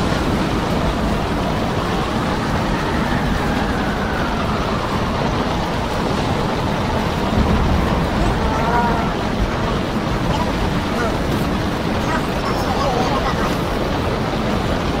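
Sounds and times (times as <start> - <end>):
storm wind rushing: 0.0 - 15.0
wind buffeting on microphone: 0.0 - 15.0.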